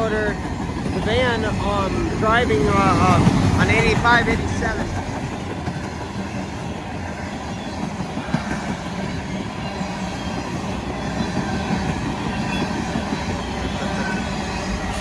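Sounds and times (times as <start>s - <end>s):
rumble of train wheels on rail: 0.0s - 15.0s.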